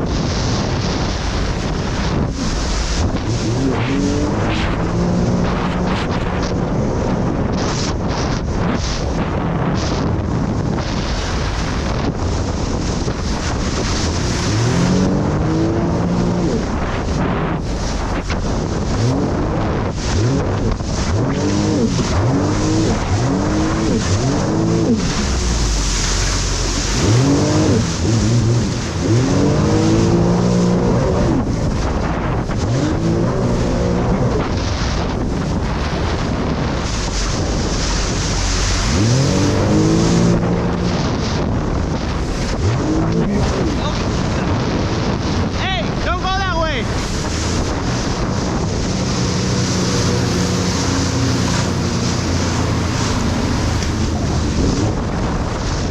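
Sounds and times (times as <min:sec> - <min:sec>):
jet ski engine revving: 0:00.0 - 0:55.9
wind noise on microphone: 0:00.0 - 0:55.9.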